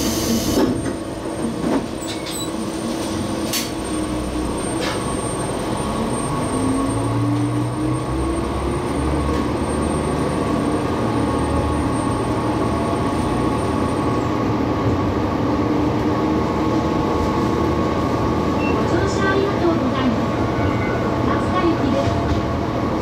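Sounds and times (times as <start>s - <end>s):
diesel railcar engine under load: 0.0s - 23.0s
train wheels rumbling on track: 0.0s - 23.0s.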